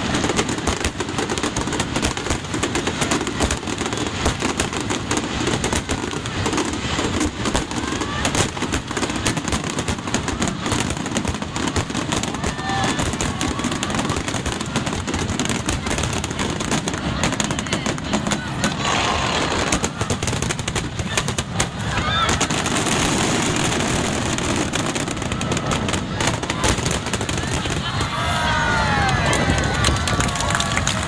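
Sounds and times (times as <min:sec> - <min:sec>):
fireworks whistles: 0:00.0 - 0:28.6
fireworks bursting and crackling: 0:00.0 - 0:31.0.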